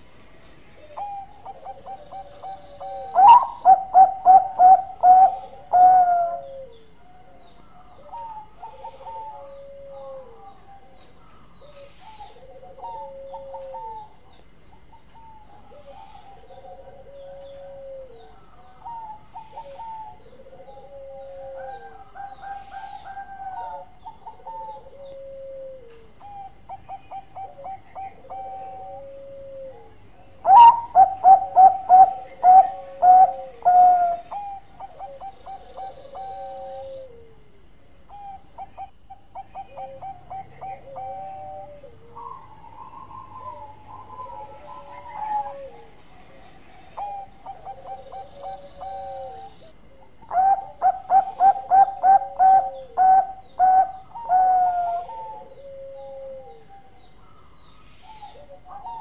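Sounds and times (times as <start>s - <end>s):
dove cooing: 0.8s - 59.0s.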